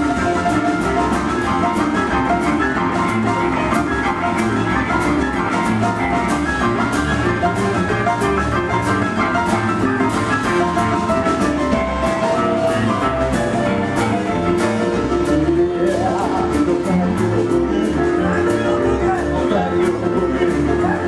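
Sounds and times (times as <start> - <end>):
rolling boogie-woogie piano: 0.0 - 21.0
steady drum beat: 0.0 - 21.0.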